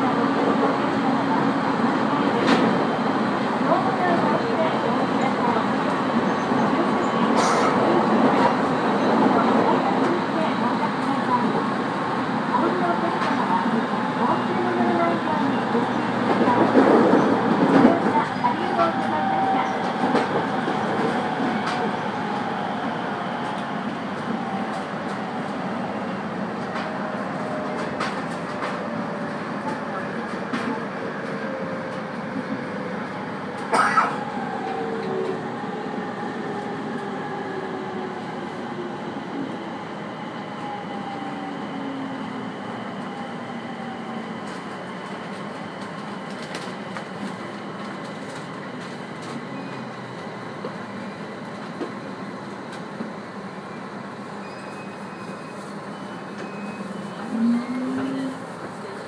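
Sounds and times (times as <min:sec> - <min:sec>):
train running and wheel noise: 0:00.0 - 0:59.0.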